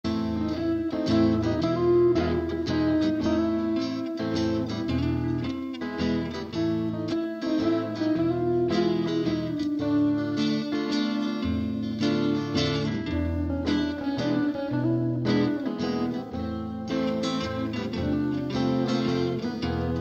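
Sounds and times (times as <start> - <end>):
instrumental guitar music: 0.0 - 20.0.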